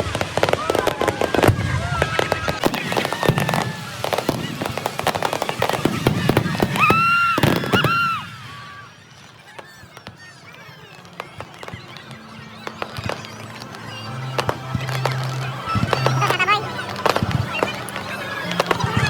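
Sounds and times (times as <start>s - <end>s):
firework whistles: 0.0s - 19.0s
fireworks bangs and crackling: 0.0s - 19.0s.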